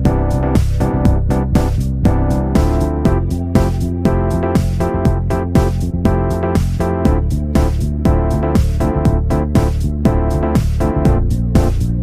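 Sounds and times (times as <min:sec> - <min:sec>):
electronic music with keyboard: 0:00.0 - 0:12.0.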